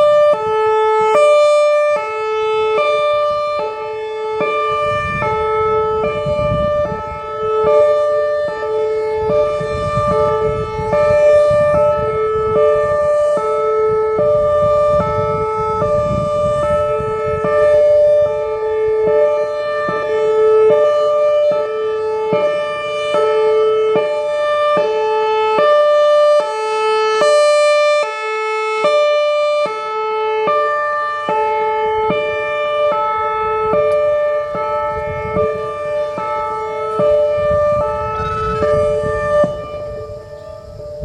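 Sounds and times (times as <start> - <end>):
distorted two-tone warning siren: 0.0 - 41.0.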